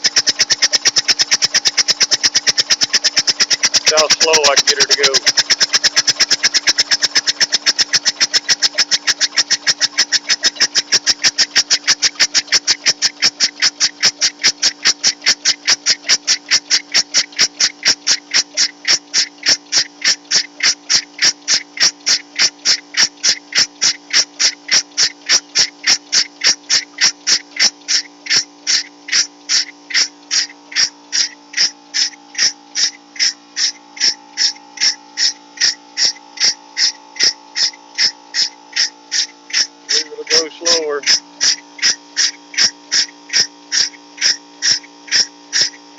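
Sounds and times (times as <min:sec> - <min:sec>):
steam engine exhaust chuffing: 0:00.0 - 0:45.9.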